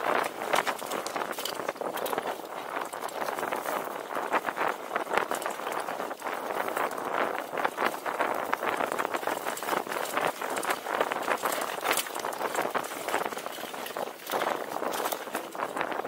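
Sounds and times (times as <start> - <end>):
bike rattling: 0.0 - 16.0
tyres crunching over gravel: 0.0 - 16.0.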